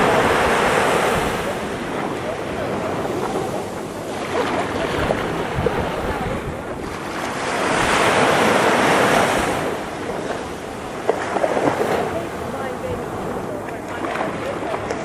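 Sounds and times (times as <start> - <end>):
wave breaking on shore: 0.0 - 15.0.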